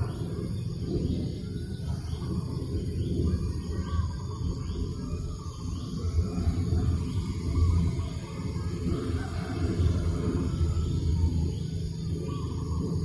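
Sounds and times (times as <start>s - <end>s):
bird chirping: 0.0s - 13.0s
wind buffeting microphone: 0.0s - 13.0s.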